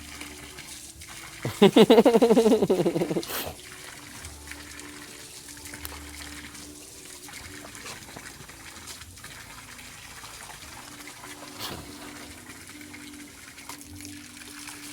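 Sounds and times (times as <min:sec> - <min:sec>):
water splashing and trickling: 0:00.0 - 0:14.9.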